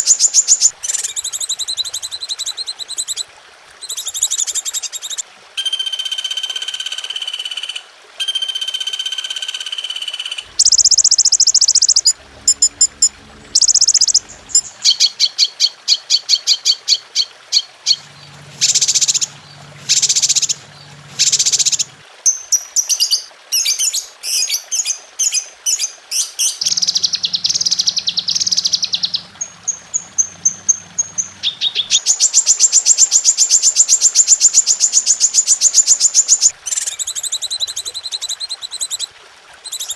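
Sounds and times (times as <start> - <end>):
songbird calls and trills: 0.0 - 39.9.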